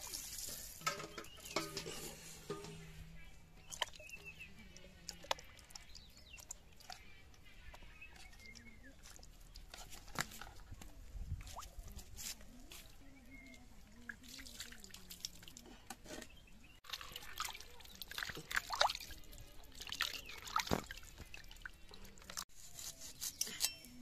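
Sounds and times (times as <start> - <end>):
water splashing in a bucket: 0.0 - 22.4.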